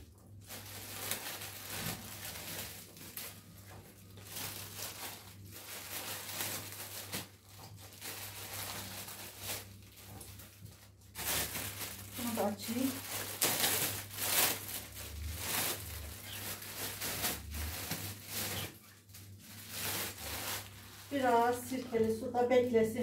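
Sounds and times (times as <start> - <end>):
plastic bags crinkling: 0.3 - 23.0.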